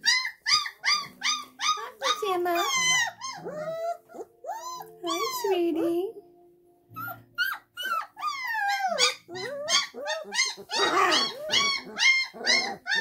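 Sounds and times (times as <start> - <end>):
puppies whining and yipping: 0.0 - 6.2, 6.9 - 13.0.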